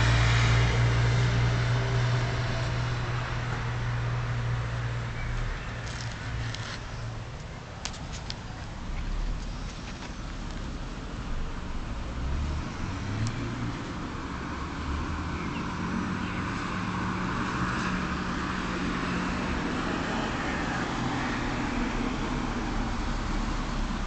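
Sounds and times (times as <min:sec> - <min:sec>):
street traffic noise: 0:00.0 - 0:24.0
vehicle engine: 0:00.0 - 0:24.0.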